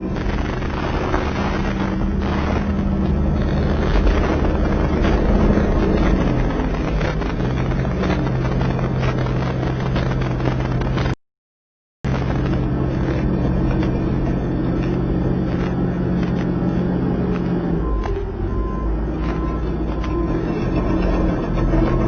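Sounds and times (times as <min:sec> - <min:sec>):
bulldozer diesel engine running: 0:00.0 - 0:11.2, 0:12.1 - 0:22.0.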